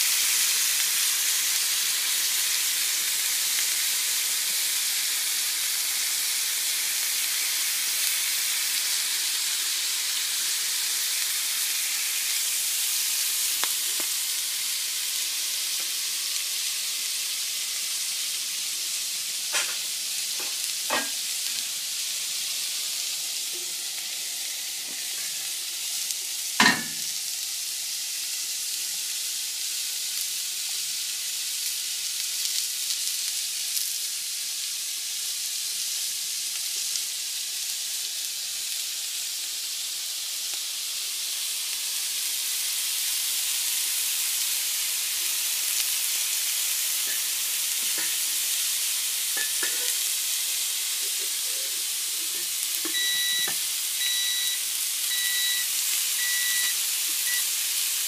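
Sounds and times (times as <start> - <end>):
meat sizzling in skillet: 0.0 - 58.0.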